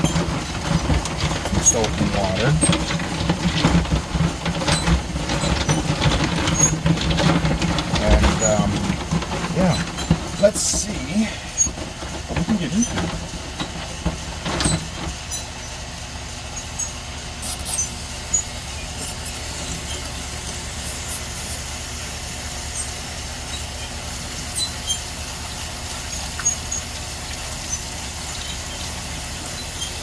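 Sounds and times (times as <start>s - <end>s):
low machine rumble: 0.0s - 29.6s.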